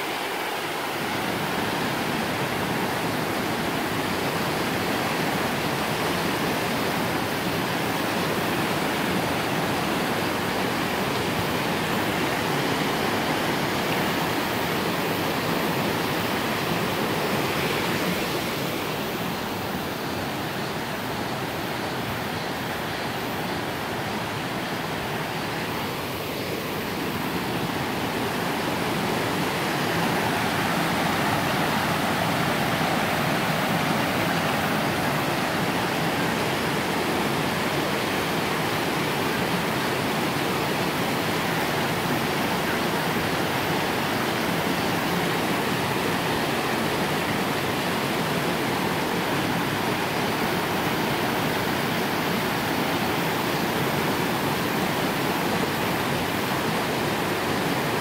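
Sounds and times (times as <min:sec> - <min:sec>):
stream rushing over boulders: 0:00.0 - 0:58.0.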